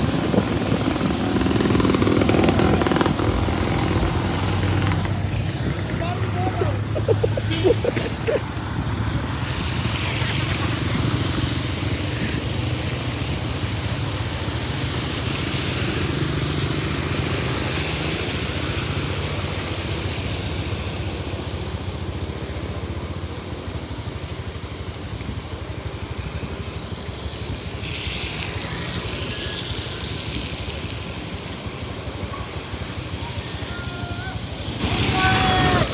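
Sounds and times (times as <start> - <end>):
rushes of spray: 0.0 - 35.9
small engines running: 0.0 - 35.9
tyres splashing through water: 0.0 - 35.9.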